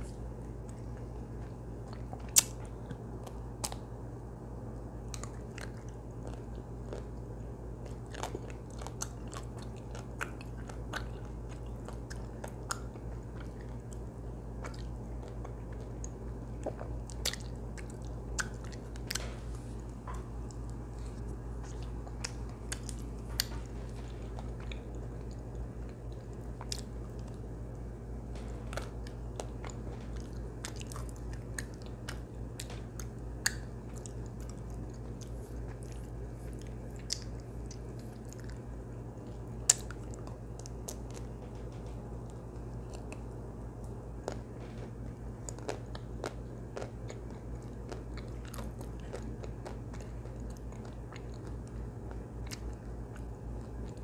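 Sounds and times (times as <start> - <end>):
wet chewing: 0.0 - 4.0, 5.0 - 54.0.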